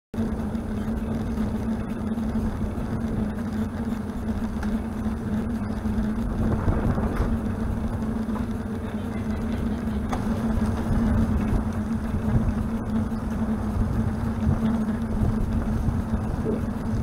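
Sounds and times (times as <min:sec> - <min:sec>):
steady low hum: 0:00.2 - 0:17.0
wind and road noise: 0:00.2 - 0:17.0.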